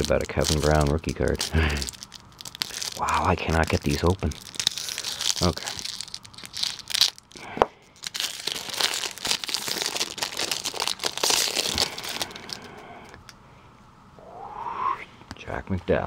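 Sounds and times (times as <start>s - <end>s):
cellophane tearing: 0.0s - 13.3s
cellophane wrapper crinkling: 0.0s - 13.4s.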